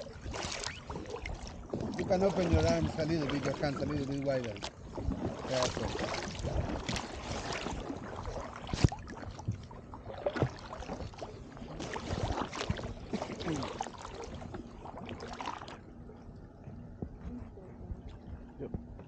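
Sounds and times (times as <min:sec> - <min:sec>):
kayak paddle splashing: 0:00.0 - 0:16.2.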